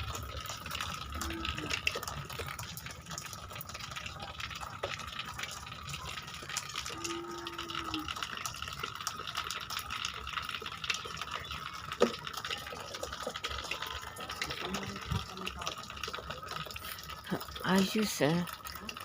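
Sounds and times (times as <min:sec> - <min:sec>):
running water gushing: 0:00.0 - 0:19.0.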